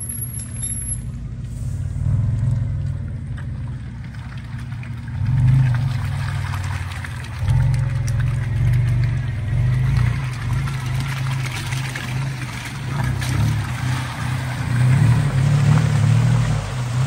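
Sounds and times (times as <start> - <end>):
suv engine running at low revs: 0.0 - 17.0.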